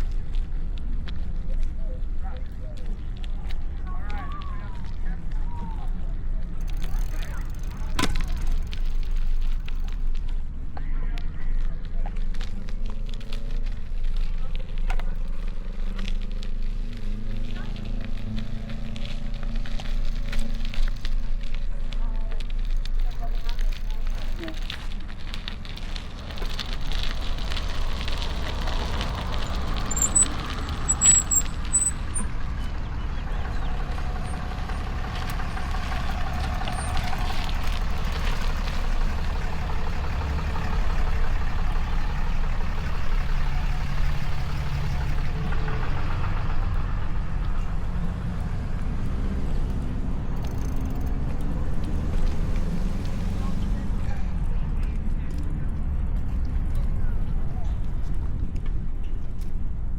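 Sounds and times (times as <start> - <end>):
street traffic passing: 0.0 - 59.9.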